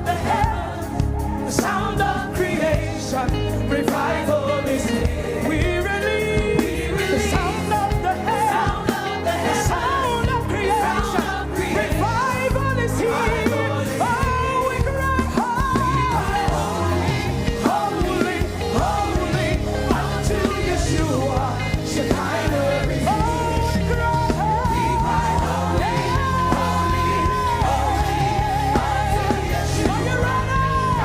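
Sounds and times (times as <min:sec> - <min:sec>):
band with drums playing: 0:00.0 - 0:31.0
voices singing: 0:00.0 - 0:31.0.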